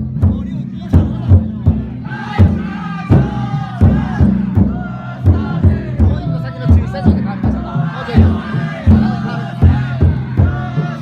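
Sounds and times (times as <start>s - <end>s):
heavy drum strokes: 0.0s - 11.0s
crowd chanting: 0.6s - 11.0s.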